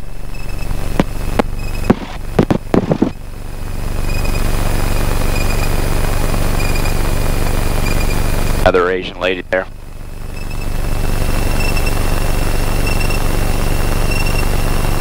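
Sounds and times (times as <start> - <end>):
light aircraft engine and propeller: 0.0 - 15.0.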